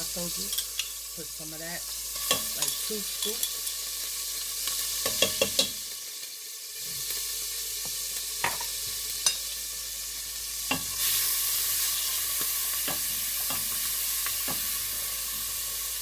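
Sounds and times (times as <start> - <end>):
garlic sizzling in oil: 0.0 - 16.0.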